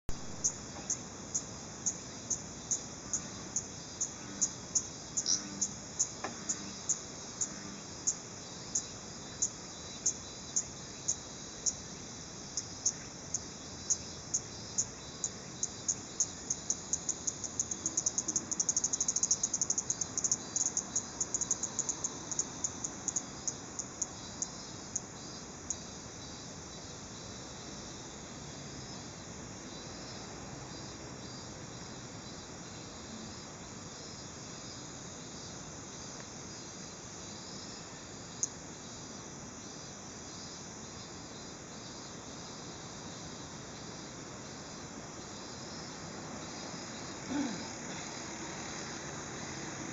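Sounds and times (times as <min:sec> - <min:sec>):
cicada clicking: 0:00.1 - 0:28.1, 0:35.4 - 0:39.2, 0:39.8 - 0:49.9
faint steady hiss: 0:00.1 - 0:49.9.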